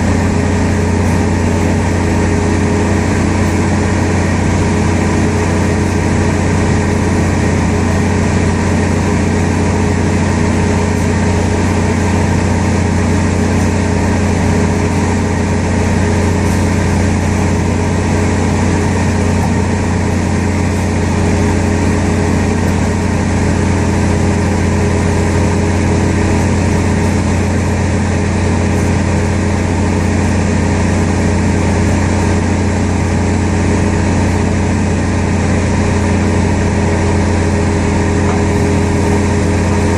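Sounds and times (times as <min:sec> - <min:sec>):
aircraft engine hum: 0:00.0 - 0:39.9.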